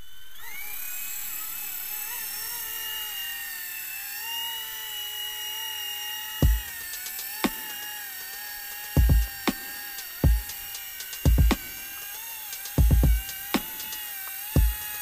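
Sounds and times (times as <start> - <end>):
rc helicopter motor and rotor whine: 0.0 - 15.0.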